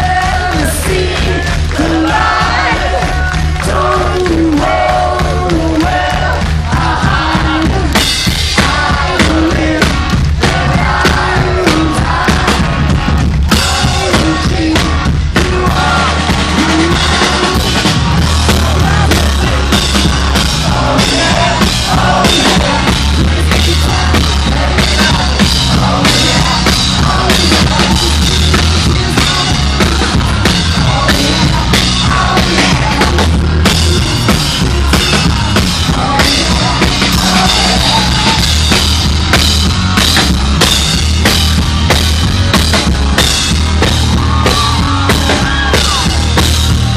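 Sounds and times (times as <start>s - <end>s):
person singing: 0.0s - 39.0s
heavy bass drum: 0.0s - 46.9s
rock band playing live: 0.0s - 46.9s.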